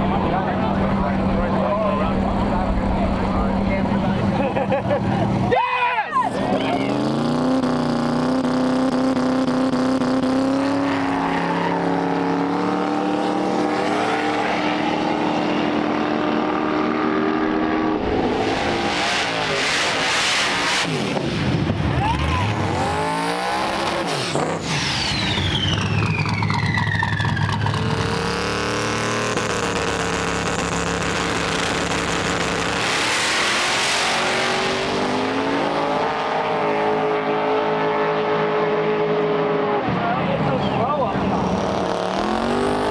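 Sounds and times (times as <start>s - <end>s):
drag race car engines: 0.0s - 42.9s
cars launching and passing: 6.3s - 42.9s.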